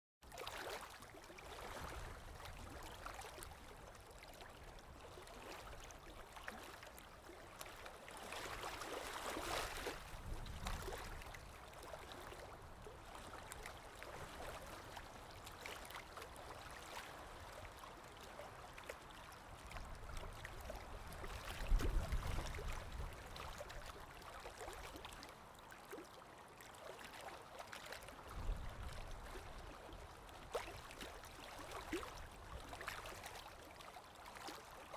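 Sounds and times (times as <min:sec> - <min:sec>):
water lapping: 0:00.3 - 0:34.9.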